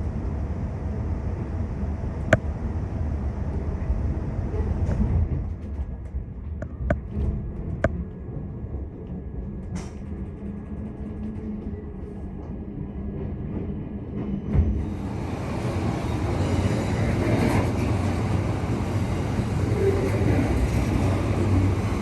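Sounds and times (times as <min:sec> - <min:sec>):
train rumbling along track: 0:00.0 - 0:22.0.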